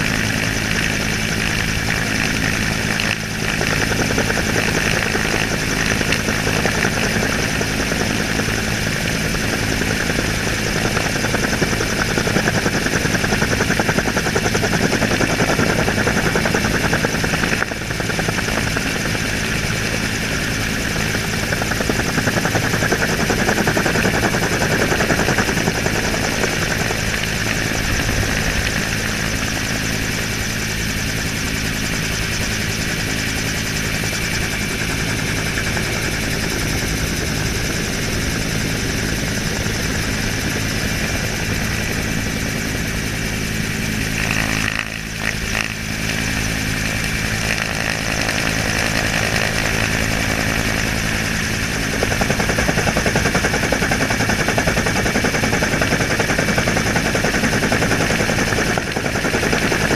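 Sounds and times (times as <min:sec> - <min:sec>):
helicopter rotor and engine noise: 0:00.0 - 0:59.9.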